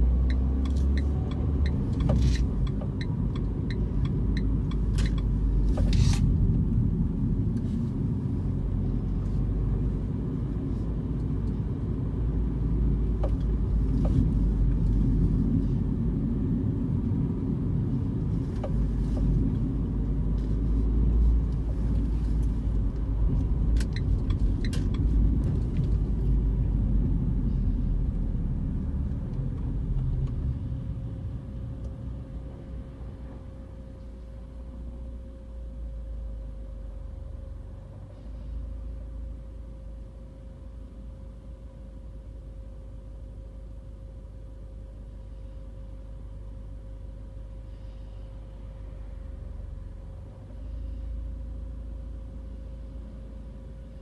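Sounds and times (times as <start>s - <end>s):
car engine low rumble: 0.0s - 54.0s.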